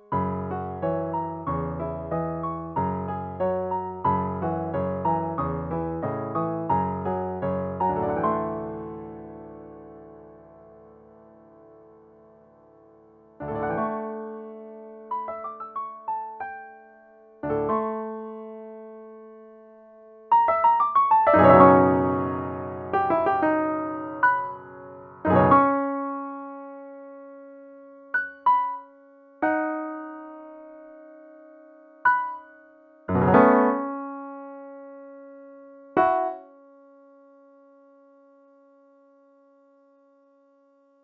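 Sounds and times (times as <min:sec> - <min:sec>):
slow solo piano piece: 0:00.0 - 0:41.0.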